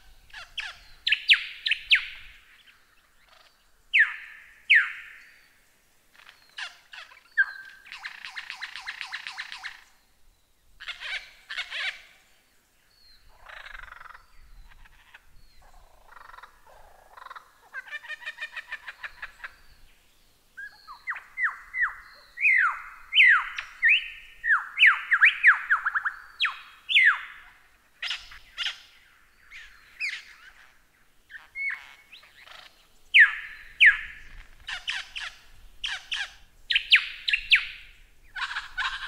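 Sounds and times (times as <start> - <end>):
lyrebird singing: 0.0 - 10.1, 10.8 - 39.0.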